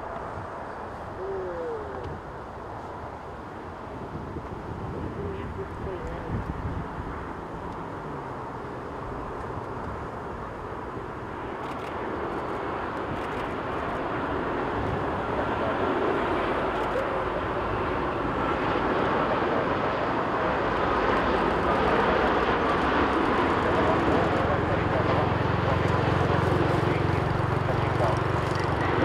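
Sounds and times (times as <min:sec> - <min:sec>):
jet engines on landing approach: 0:00.0 - 0:29.0.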